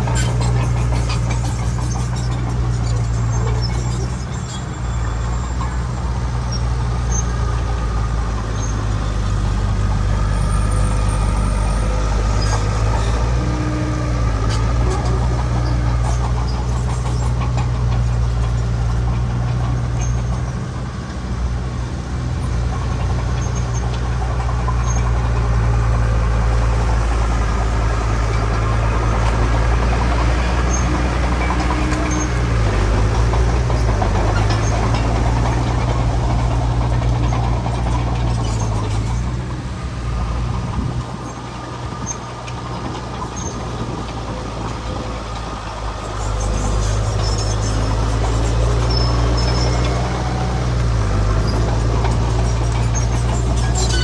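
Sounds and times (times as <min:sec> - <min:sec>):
heavy diesel machinery droning: 0:00.0 - 0:54.0.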